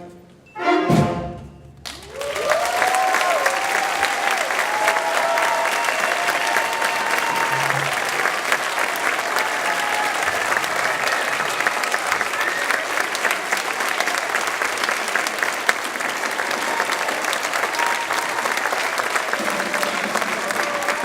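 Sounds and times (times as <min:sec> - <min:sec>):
audience applause: 0:01.8 - 0:21.0
people cheering: 0:01.9 - 0:21.0.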